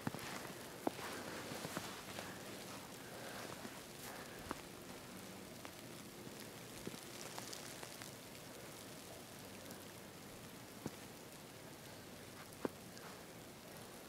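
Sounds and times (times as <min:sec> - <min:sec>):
snowstorm hiss: 0:00.0 - 0:14.0.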